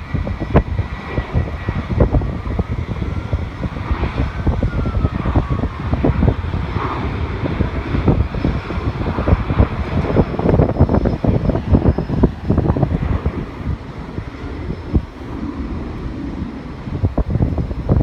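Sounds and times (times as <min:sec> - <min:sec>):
faint jet engine whine: 0:00.0 - 0:18.0
wind buffeting microphone: 0:00.0 - 0:18.0.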